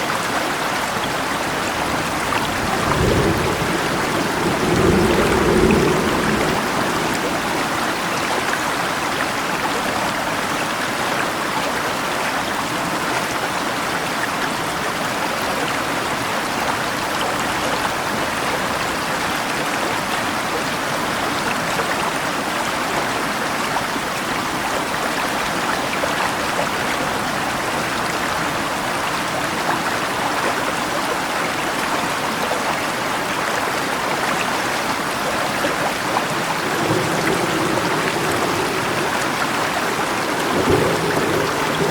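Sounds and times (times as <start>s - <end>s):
river rushing and babbling: 0.0s - 41.9s.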